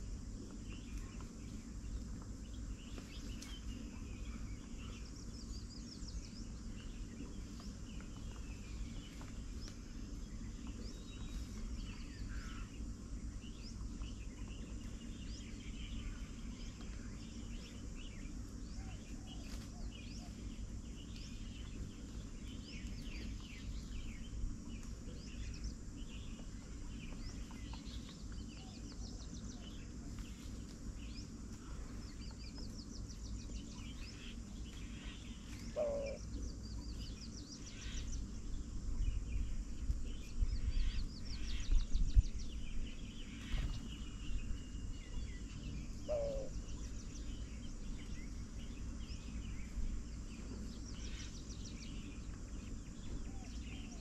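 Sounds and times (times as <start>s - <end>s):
small birds chirping: 0.0s - 54.0s
steady low rumble: 0.0s - 54.0s
low falling bird call: 0.4s - 38.5s, 42.8s - 49.7s.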